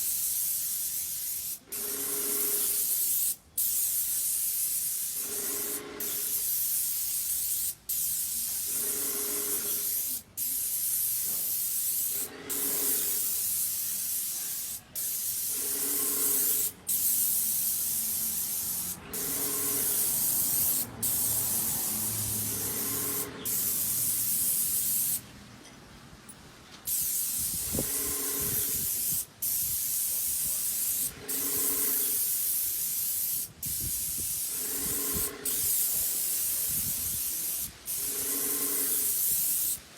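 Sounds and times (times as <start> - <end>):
paint spray gun hissing: 0.0 - 25.2, 26.9 - 39.9.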